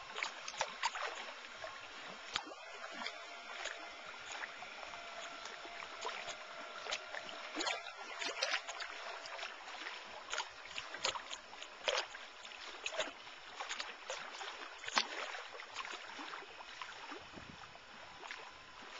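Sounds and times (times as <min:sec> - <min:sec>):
lake water lapping and splashing: 0:00.0 - 0:18.9.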